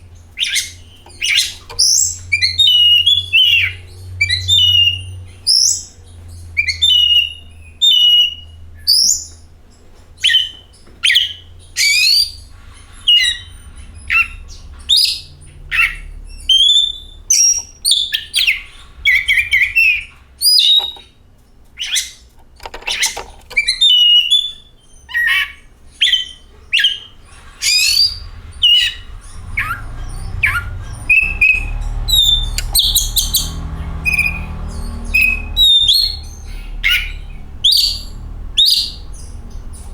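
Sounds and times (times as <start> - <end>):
low steady hum: 0.0 - 39.9
bird singing whistles and chirps: 0.3 - 9.4, 10.2 - 21.2, 21.8 - 39.9.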